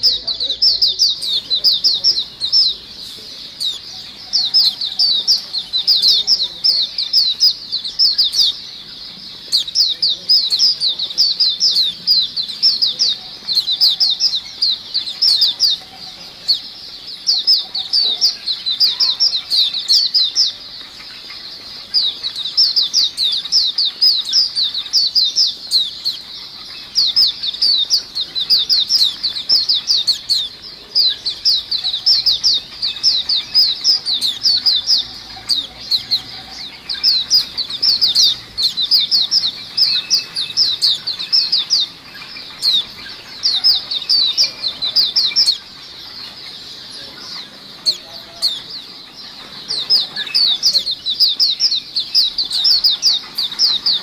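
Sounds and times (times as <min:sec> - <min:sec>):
birds chirping in chorus: 0:00.0 - 0:54.0.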